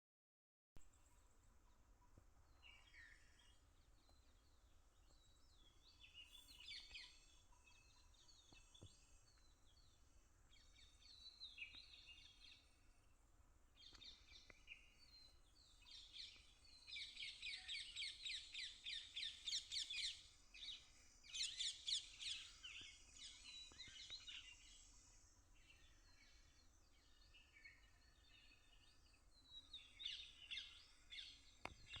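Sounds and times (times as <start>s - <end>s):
small birds chirping: 0.9s - 32.0s.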